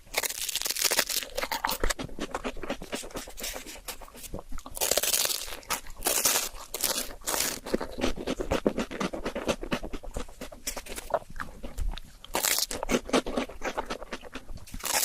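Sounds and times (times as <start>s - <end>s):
crunchy bites and chewing: 0.0s - 15.0s.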